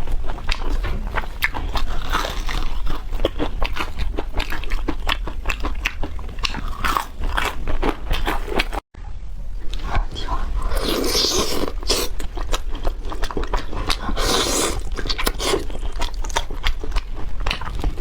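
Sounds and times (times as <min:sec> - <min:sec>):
crunchy chewing of food: 0:00.0 - 0:08.8, 0:09.6 - 0:18.0.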